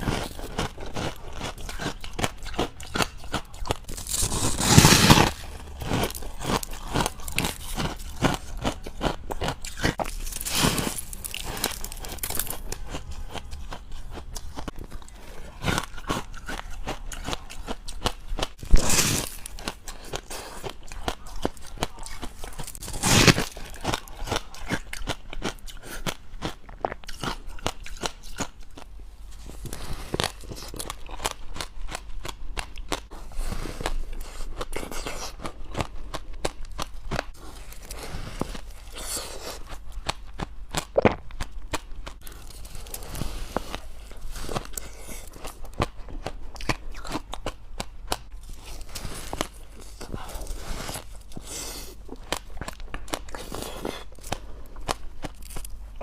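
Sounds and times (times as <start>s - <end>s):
crunching and chewing ice: 0.0s - 56.0s.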